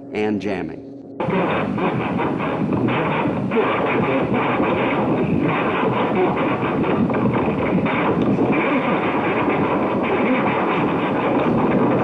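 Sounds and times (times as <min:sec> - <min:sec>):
fluttering radio jamming noise: 0:00.0 - 0:12.0.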